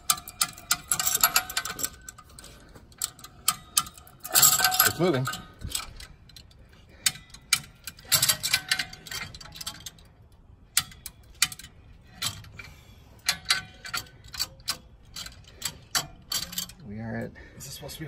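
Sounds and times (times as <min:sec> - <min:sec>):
ratchet clicking: 0:00.0 - 0:16.8.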